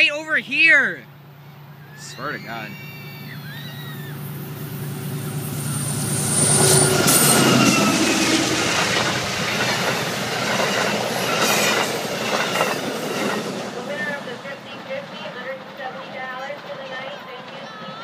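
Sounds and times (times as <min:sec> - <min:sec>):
passenger train passing: 0:00.0 - 0:18.0.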